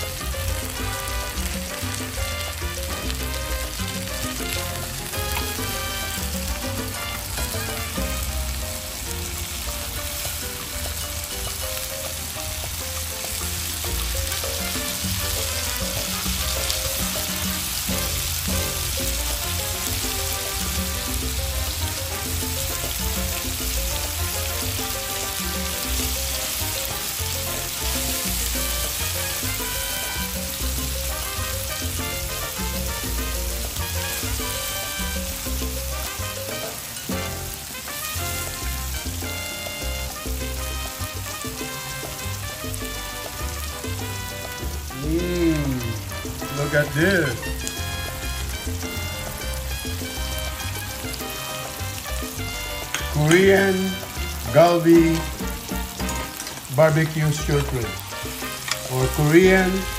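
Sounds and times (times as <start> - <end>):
background music: 0.0 - 59.9
meat sizzling on a grill pan: 0.0 - 59.9.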